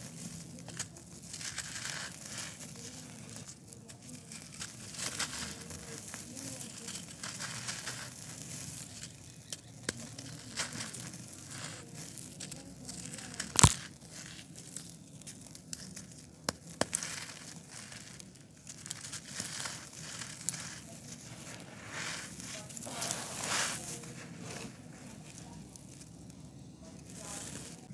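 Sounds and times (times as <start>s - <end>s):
grit trickling through fingers: 0.0s - 27.9s
sharp crackles: 0.0s - 27.9s
concrete crumbling in hands: 4.5s - 27.9s.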